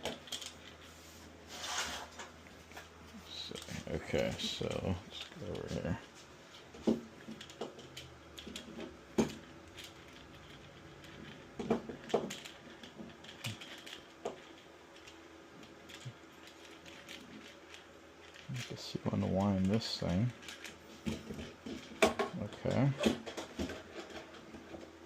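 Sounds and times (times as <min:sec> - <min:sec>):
boom arm parts clicking and knocking: 0:03.5 - 0:24.9.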